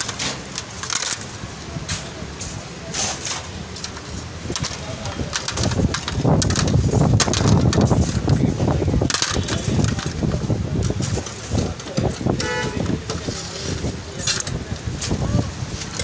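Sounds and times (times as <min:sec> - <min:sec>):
rumble of voices: 0:00.0 - 0:16.0
street noise: 0:00.0 - 0:16.0.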